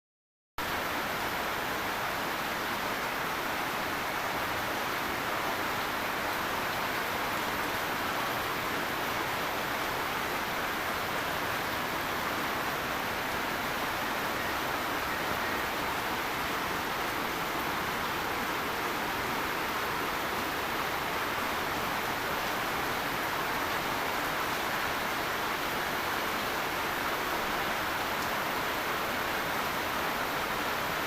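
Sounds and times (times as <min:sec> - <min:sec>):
rain falling steadily: 0:00.6 - 0:31.0.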